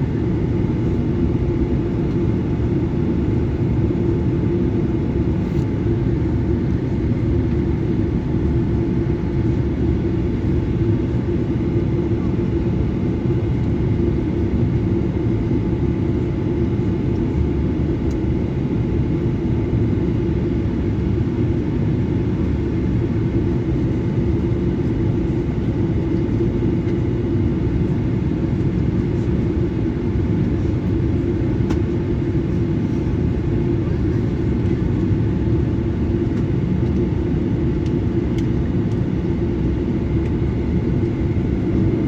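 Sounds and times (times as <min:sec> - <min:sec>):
jet engine drone in cabin: 0:00.0 - 0:42.0.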